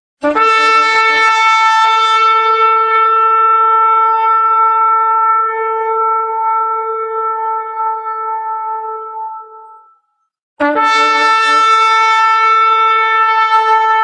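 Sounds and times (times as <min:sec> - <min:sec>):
shofar blast: 0:00.2 - 0:14.0.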